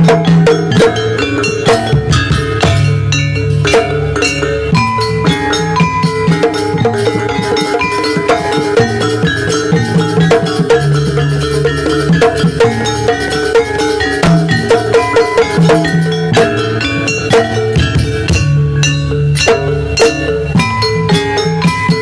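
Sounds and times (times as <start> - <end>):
drums: 0.0 - 22.0
struck tuned metal percussion: 0.0 - 22.0.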